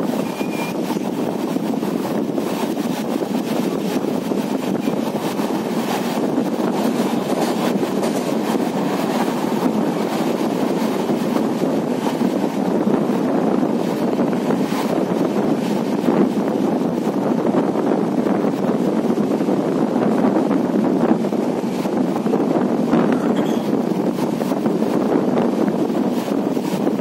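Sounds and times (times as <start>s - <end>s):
train wheels rumbling on rail: 0.0s - 27.0s
wind on microphone: 0.0s - 27.0s.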